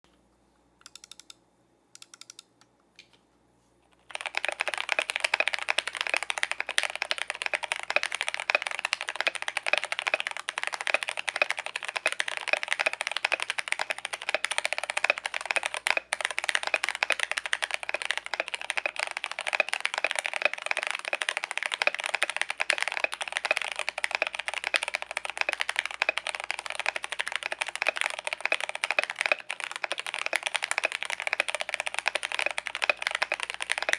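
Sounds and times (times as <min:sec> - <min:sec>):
mechanical keyboard typing: 0:00.8 - 0:01.4, 0:02.0 - 0:02.5, 0:04.1 - 0:33.9.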